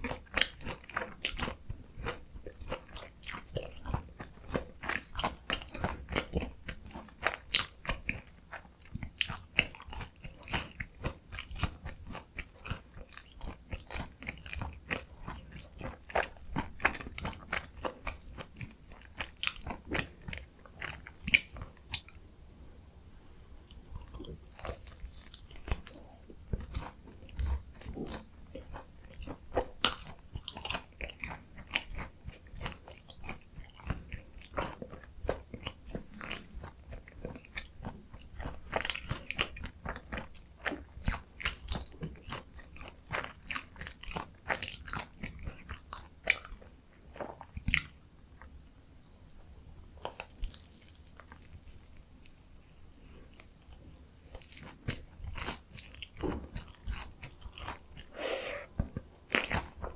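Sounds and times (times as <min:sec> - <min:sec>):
crisp crunchy chewing: 0:00.0 - 0:22.2, 0:23.6 - 0:59.9.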